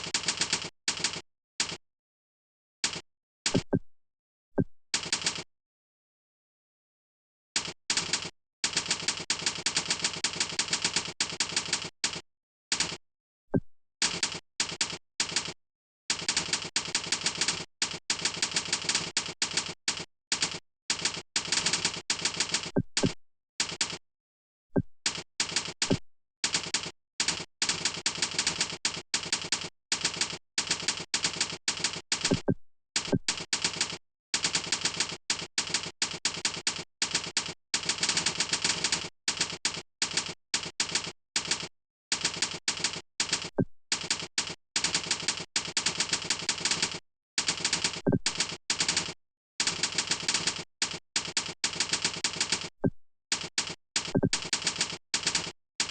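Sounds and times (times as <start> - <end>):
fast typing on a keyboard: 0.0 - 1.8, 2.8 - 3.0, 5.0 - 5.5, 7.6 - 13.0, 14.0 - 24.0, 25.1 - 55.9.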